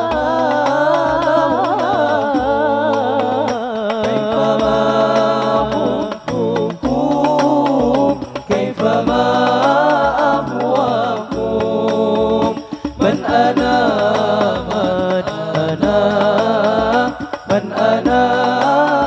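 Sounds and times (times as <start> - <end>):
voices singing together: 0.0 - 19.0.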